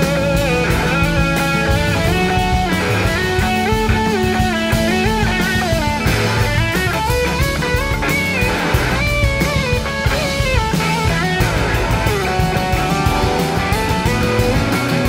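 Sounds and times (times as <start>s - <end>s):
bass guitar: 0.0s - 15.0s
drum kit: 0.0s - 15.0s
electric slide guitar solo: 0.0s - 15.0s.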